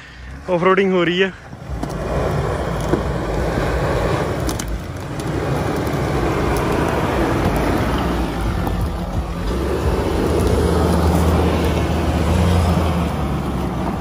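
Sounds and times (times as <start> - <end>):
truck engine rumbling at low speed: 0.0 - 14.0.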